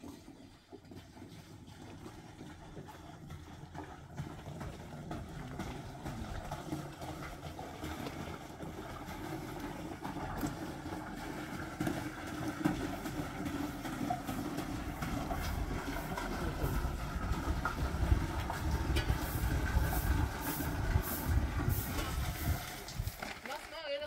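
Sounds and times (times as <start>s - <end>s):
water glugging into plastic tank: 0.0s - 24.0s.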